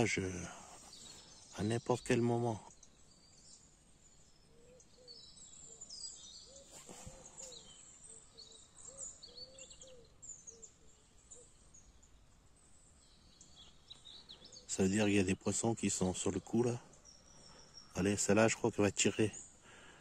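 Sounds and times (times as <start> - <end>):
small birds chirping: 0.0 - 20.0
soft repeated bird calls: 0.0 - 20.0.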